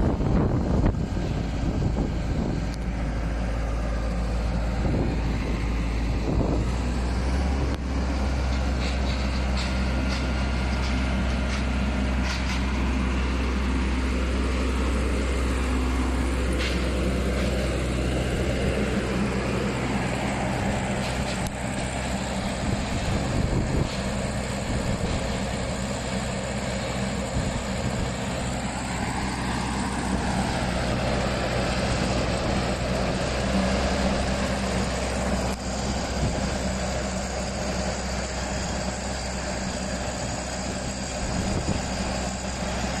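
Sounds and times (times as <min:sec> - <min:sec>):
loader engine running: 0:00.0 - 0:43.0.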